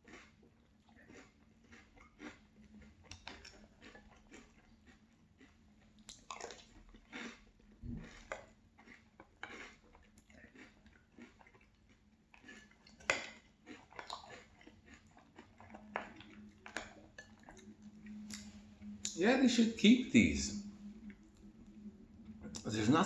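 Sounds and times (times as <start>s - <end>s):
chewing crunchy cereal: 0.0s - 19.6s.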